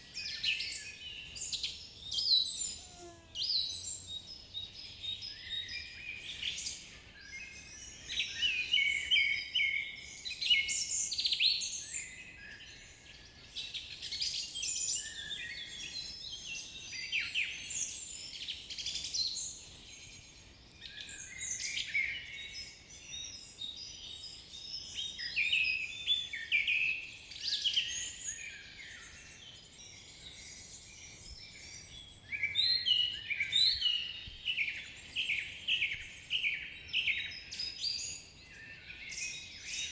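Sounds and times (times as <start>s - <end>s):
songbirds chirping and trilling: 0.1s - 39.9s.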